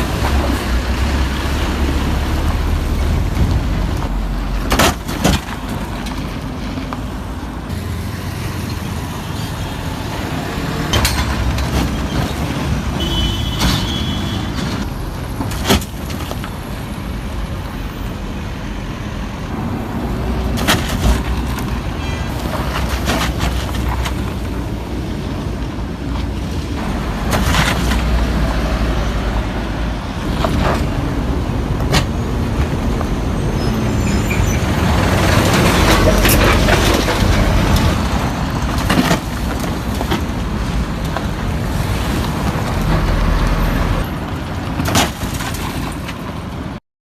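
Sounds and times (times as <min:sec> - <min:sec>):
road and engine rumble: 0:00.0 - 0:46.8.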